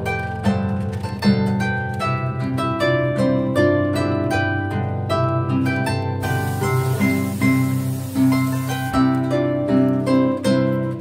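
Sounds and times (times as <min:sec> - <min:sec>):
solo harp music: 0:00.0 - 0:11.0.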